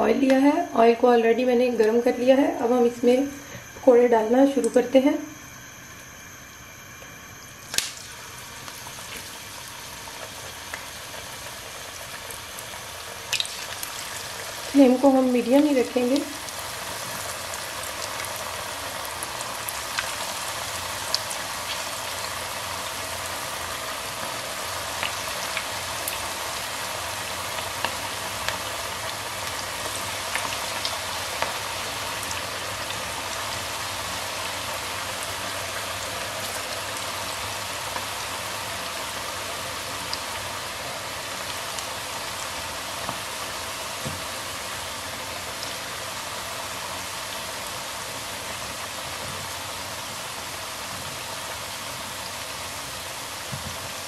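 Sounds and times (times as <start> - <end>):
food deep-frying in oil: 0.0 - 54.0.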